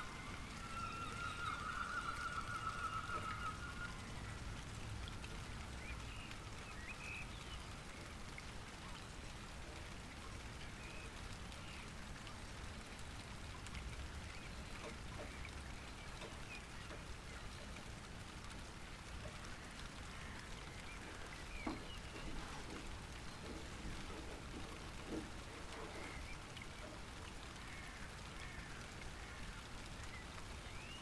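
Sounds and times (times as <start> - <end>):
light rain dripping: 0.0 - 31.0.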